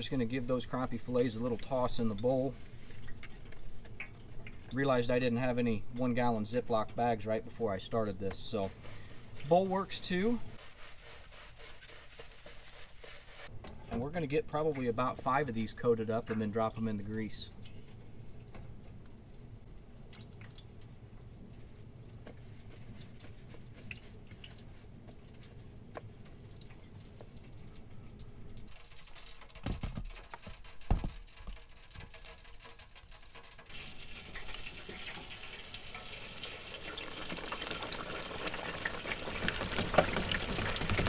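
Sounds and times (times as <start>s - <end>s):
hot oil sizzling and bubbling: 0.0s - 7.6s, 8.4s - 13.6s, 16.5s - 41.0s.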